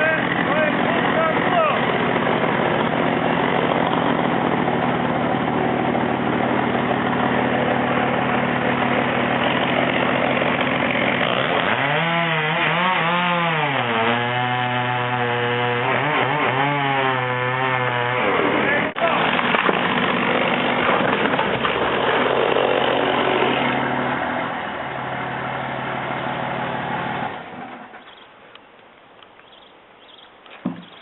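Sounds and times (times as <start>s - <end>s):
chainsaw cutting tree trunk: 0.0s - 28.0s.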